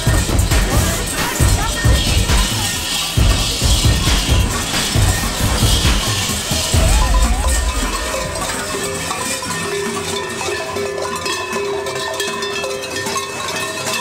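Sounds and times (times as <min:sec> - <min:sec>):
large metal bells clanging: 0:00.0 - 0:14.0.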